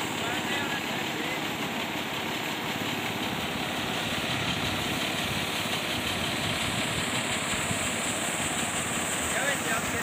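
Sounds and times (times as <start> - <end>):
rice thresher engine droning: 0.0 - 10.0.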